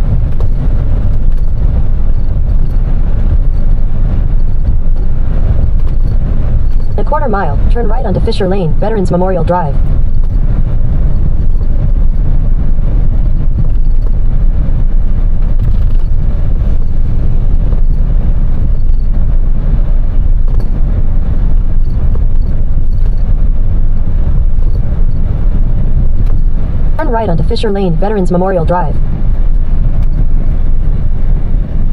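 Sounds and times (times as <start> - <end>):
road noise inside cab: 0.0 - 31.9
truck engine drone: 0.0 - 31.9.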